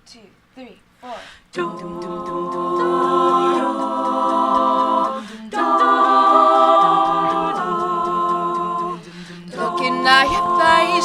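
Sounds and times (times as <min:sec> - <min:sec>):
a cappella group singing chords: 0:01.1 - 0:11.0.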